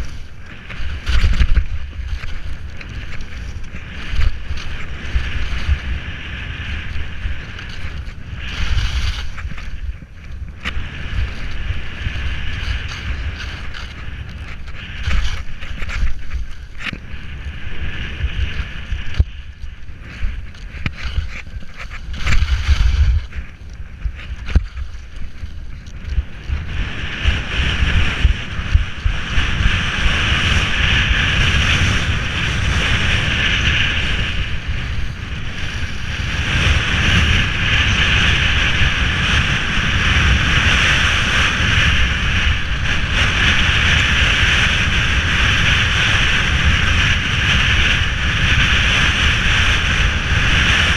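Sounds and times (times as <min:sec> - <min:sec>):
skis scraping on snow: 0:00.0 - 0:50.9
wind buffeting microphone: 0:00.0 - 0:50.9.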